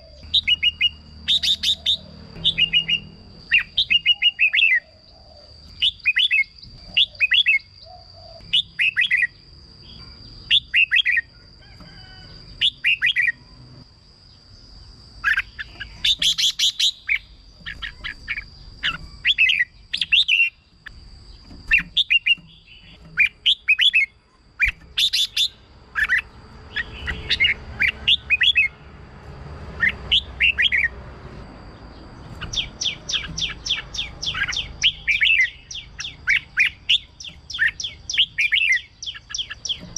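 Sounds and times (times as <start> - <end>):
bird singing warbled phrases: 0.0 - 11.3, 12.5 - 13.7, 14.3 - 28.9, 29.7 - 39.9.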